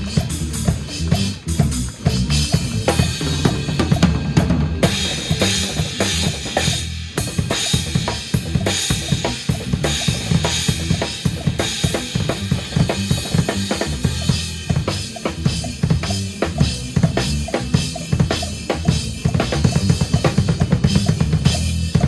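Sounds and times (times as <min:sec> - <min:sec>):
jazz fusion band playing: 0:00.0 - 0:06.7, 0:07.8 - 0:22.0
bass guitar notes: 0:00.0 - 0:22.0
drum kit: 0:00.0 - 0:22.0.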